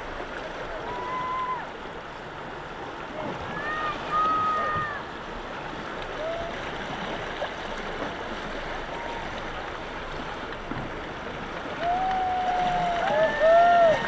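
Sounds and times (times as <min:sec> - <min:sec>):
river rapids rushing: 0:00.0 - 0:14.0.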